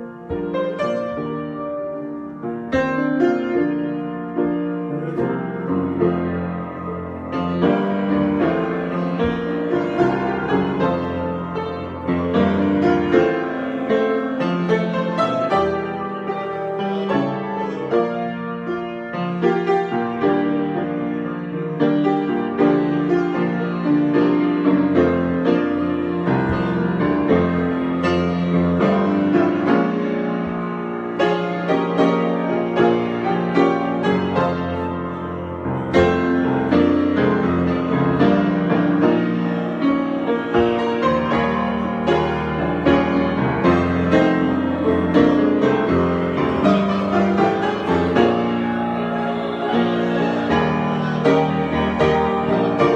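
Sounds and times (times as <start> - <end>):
solo piano improvisation: 0.0 - 52.9.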